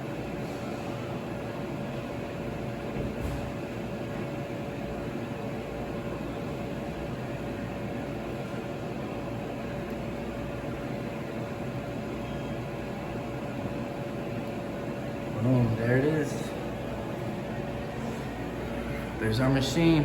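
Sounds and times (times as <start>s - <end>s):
fan-like whir: 0.0s - 20.0s
mid-pitched hum: 0.0s - 20.0s.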